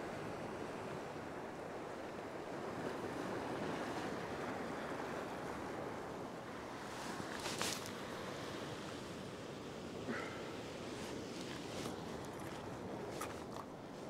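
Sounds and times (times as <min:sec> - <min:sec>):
ocean surf washing on rocks: 0:00.1 - 0:14.0.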